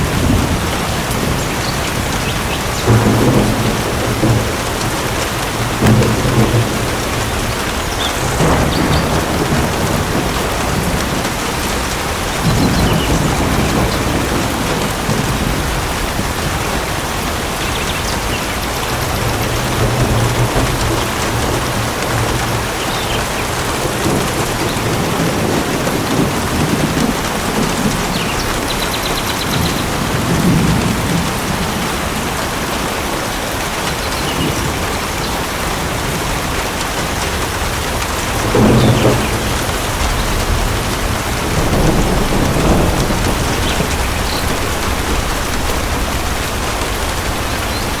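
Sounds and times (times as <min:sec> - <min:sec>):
steady rain falling: 0:00.0 - 0:48.0
thunder rumbling: 0:00.0 - 0:48.0.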